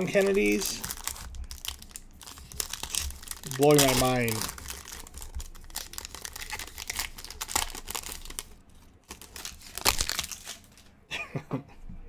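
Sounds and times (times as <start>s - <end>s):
foil wrapper crinkling and tearing: 0.0s - 10.9s.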